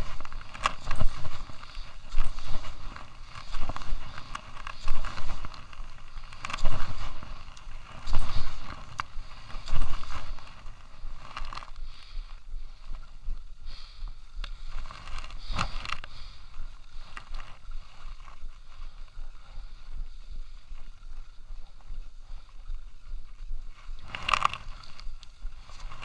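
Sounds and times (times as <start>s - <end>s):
skis scraping over snow: 0.0s - 13.9s, 14.5s - 26.0s.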